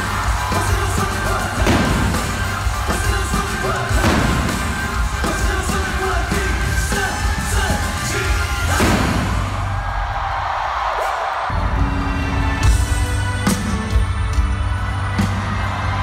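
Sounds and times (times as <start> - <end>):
live pop band with singing: 0.0 - 9.6, 11.8 - 16.0.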